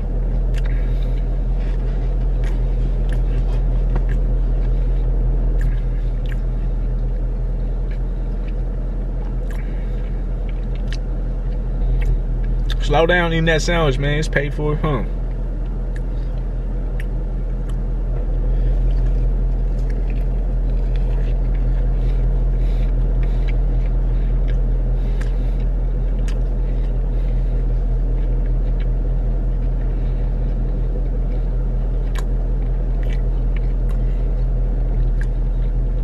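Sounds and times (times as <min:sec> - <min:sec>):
car idling hum: 0:00.0 - 0:36.0
chewing clicks: 0:00.4 - 0:12.8, 0:15.2 - 0:36.0.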